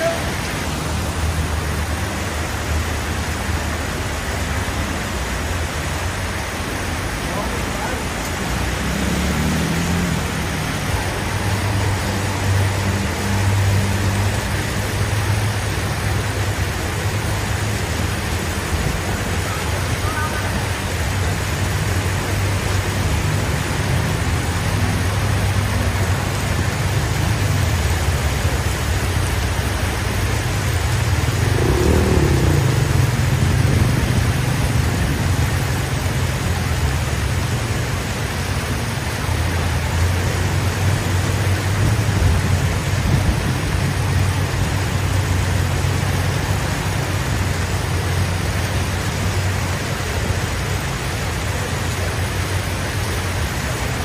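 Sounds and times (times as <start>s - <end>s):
traffic noise: 0.0s - 54.0s
vehicle engine running: 0.0s - 54.0s.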